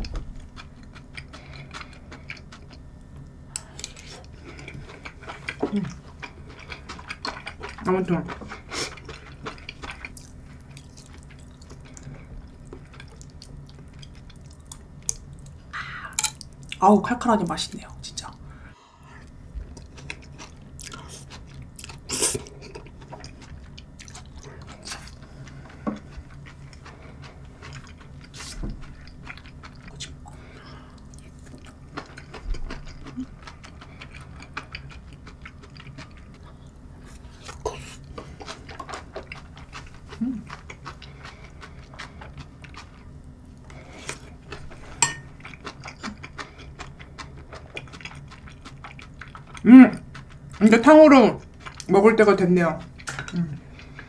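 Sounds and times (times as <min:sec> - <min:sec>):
wet chewing sounds: 0:00.0 - 0:16.8, 0:19.2 - 0:54.0.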